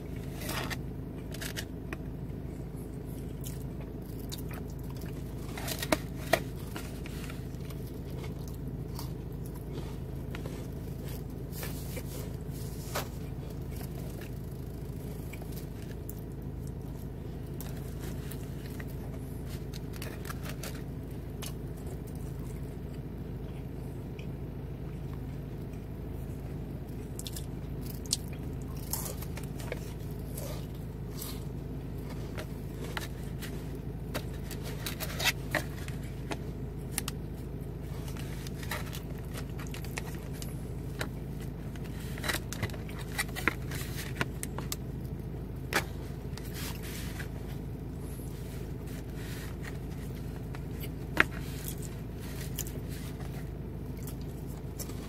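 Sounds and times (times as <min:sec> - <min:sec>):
person chewing crackers: 0:00.0 - 0:23.1, 0:26.5 - 0:55.0
steady low hum: 0:00.0 - 0:55.0.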